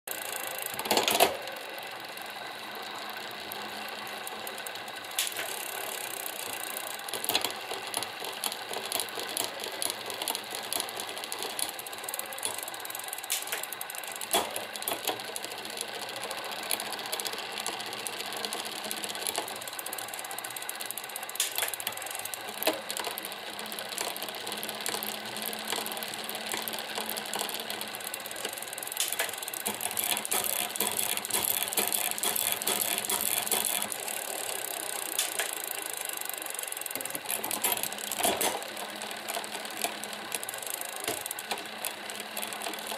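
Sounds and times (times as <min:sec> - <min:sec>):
bicycle derailleur rattling: 0:00.1 - 0:42.9
sharp bicycle click: 0:00.1 - 0:42.9.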